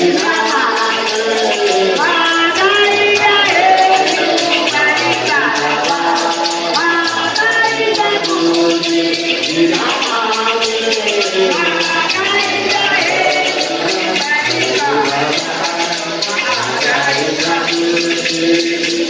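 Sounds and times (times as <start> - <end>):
shakers keeping a beat: 0.0 - 19.0
voices singing a hymn: 0.0 - 19.0.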